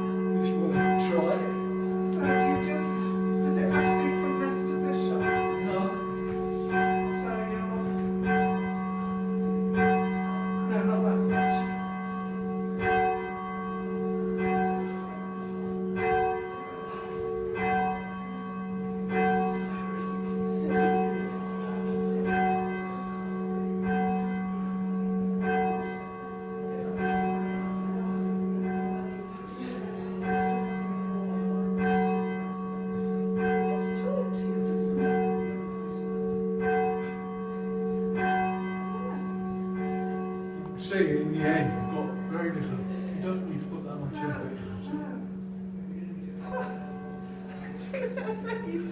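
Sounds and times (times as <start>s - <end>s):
church bell ringing: 0.0s - 48.9s.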